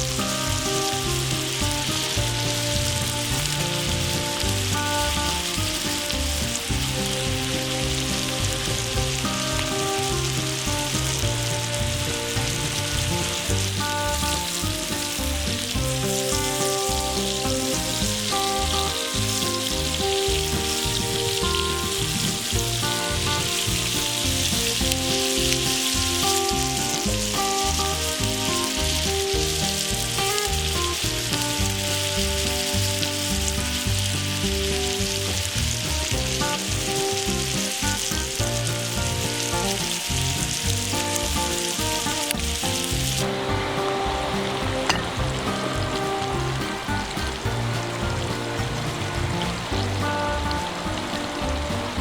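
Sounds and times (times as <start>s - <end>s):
background music: 0.0s - 52.0s
steak sizzling in a pan: 0.0s - 52.0s.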